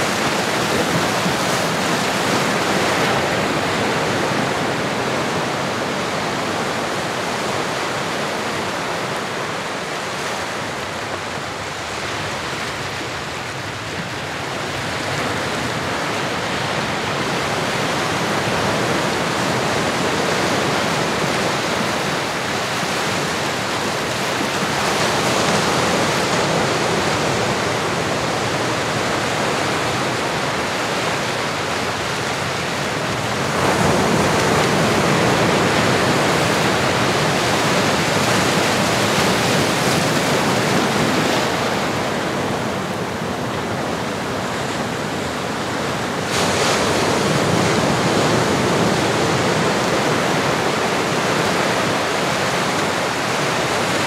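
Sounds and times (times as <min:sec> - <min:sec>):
ocean surf waves: 0:00.0 - 0:54.0.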